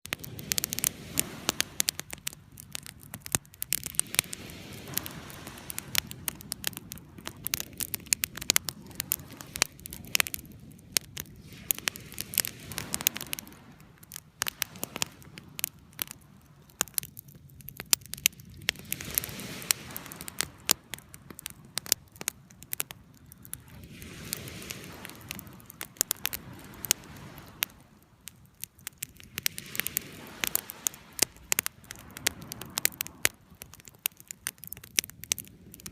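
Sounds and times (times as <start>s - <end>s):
campfire crackling and popping: 0.0s - 35.9s
ocean waves washing in: 0.0s - 35.9s.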